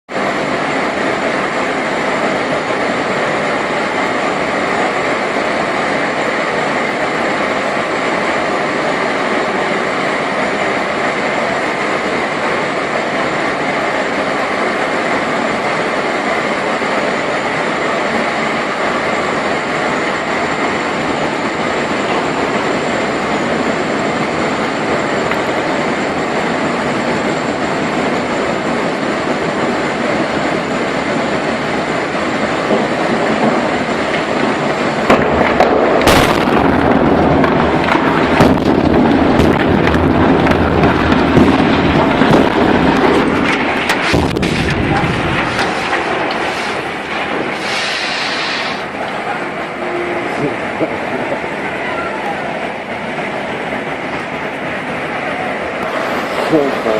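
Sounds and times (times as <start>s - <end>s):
industrial rumble and hiss: 0.1s - 56.9s.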